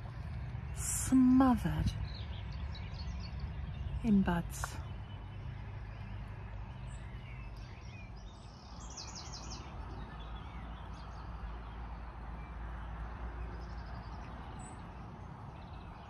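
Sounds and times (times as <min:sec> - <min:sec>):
low background rumble: 0:00.0 - 0:16.0
songbirds calling: 0:00.0 - 0:16.0.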